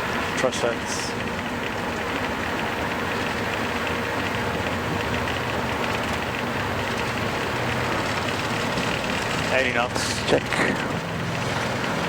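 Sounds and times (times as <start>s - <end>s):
jet engines at takeoff: 0.0s - 12.0s
takeoff roll rumble: 0.0s - 12.0s.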